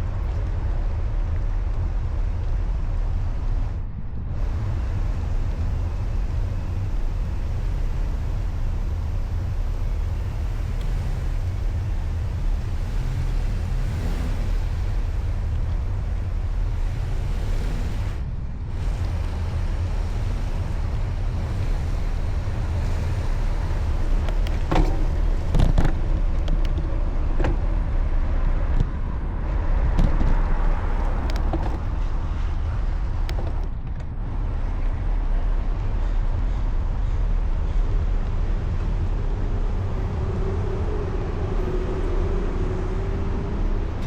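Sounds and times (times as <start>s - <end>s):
bicycle road noise: 0.0s - 44.0s
wind rumble: 0.0s - 44.0s.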